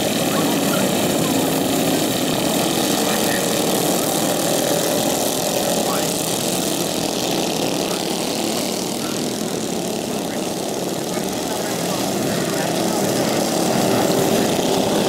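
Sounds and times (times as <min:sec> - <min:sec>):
small lawnmower engines running: 0:00.0 - 0:15.0.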